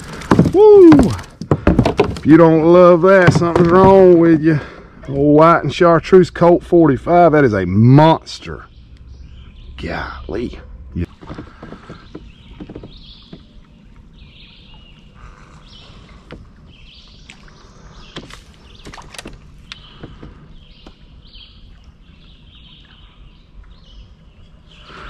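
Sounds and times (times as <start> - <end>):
songbird singing: 2.2 - 25.0.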